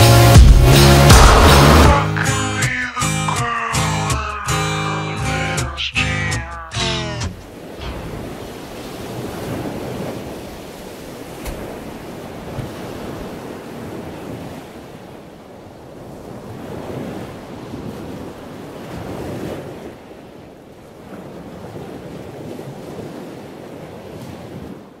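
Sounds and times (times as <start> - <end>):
waves breaking on beach: 0.9 - 25.0.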